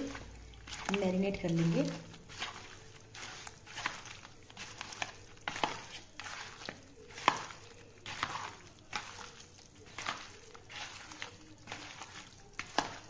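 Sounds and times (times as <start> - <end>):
hand squelching wet marinade: 0.0 - 13.0.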